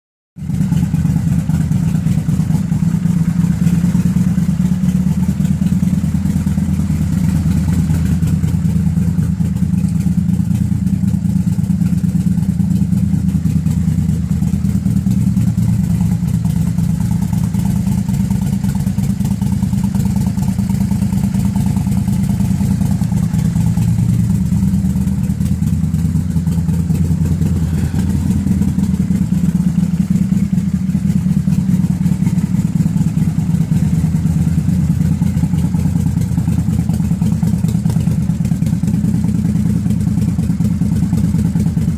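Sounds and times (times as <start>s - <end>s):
motorcycle engine low exhaust: 0.4s - 41.9s.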